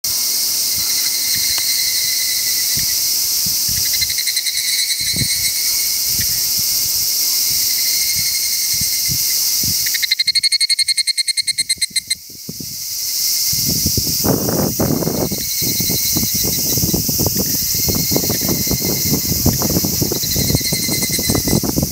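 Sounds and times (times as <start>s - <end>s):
cicada chorus: 0.0s - 21.9s
cicada pulsing call: 0.1s - 21.9s.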